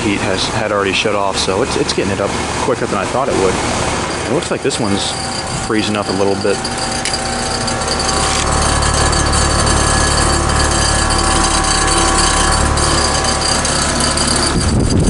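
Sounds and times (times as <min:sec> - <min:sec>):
compressor hum: 0:00.0 - 0:15.0
condenser fan rushing: 0:00.0 - 0:15.0.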